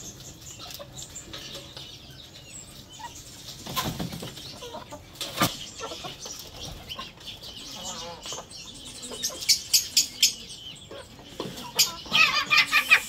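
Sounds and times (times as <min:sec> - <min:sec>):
chickens clucking and chirping: 0:00.0 - 0:13.0.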